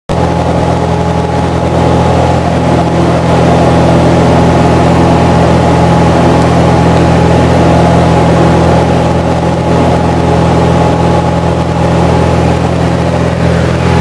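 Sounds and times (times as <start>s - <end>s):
aircraft engine and propeller droning: 0.1s - 14.0s.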